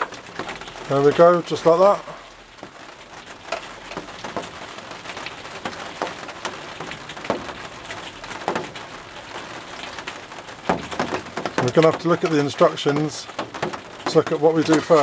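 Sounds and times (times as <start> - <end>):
rain on a plastic roof: 0.0 - 15.0.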